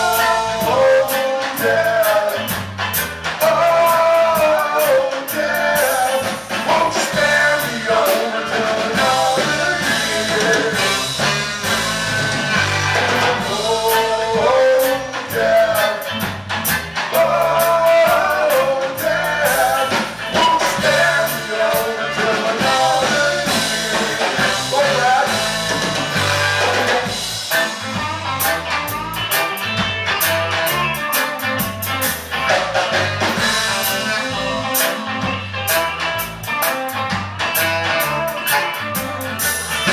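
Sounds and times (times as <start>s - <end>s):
drum kit: 0.0s - 39.9s
electric guitar: 0.0s - 39.9s
saxophone: 7.0s - 39.9s.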